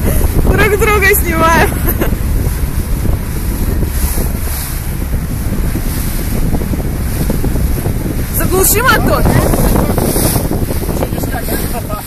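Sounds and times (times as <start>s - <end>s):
sea water rushing around boat: 0.0s - 12.0s
wind buffeting microphone: 0.0s - 12.0s.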